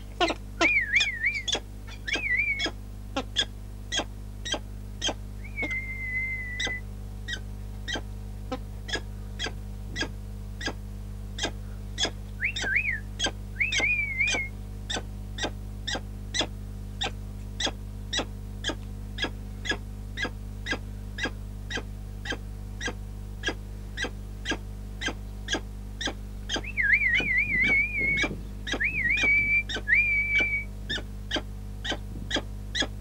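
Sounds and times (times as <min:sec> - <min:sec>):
falcon calling: 0:00.0 - 0:10.8, 0:11.4 - 0:33.0
low hum: 0:00.0 - 0:33.0.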